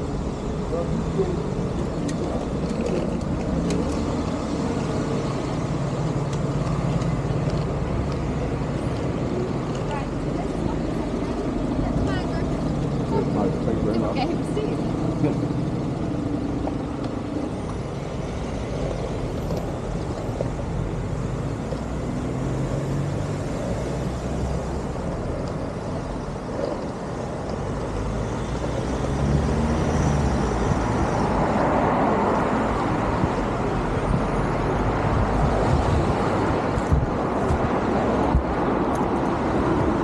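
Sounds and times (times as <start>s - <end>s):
car engines: 0.0s - 40.0s
tyres on road: 0.0s - 40.0s.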